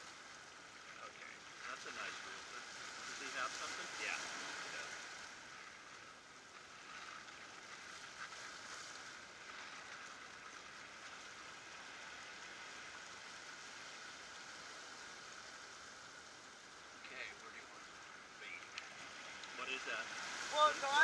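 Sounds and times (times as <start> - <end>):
surf washing over rocks: 0.0 - 21.0.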